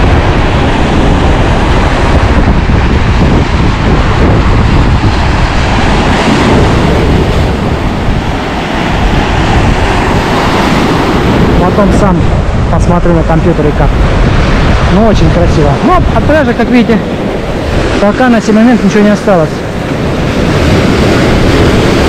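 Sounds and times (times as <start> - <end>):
waves breaking on rocks: 0.0 - 22.0
wind buffeting microphone: 0.0 - 22.0.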